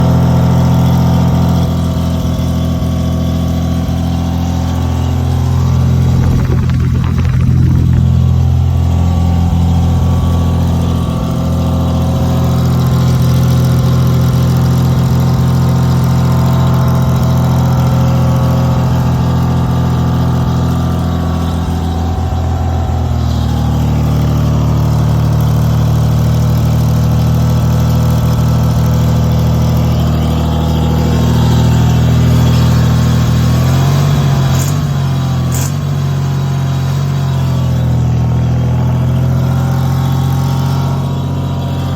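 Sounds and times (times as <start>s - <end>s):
generator engine running under load: 0.0s - 41.9s.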